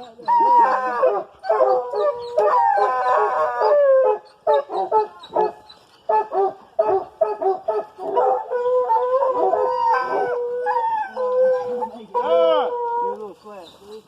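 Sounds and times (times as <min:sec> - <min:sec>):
hounds howling: 0:00.0 - 0:13.4
hounds barking: 0:00.2 - 0:13.2.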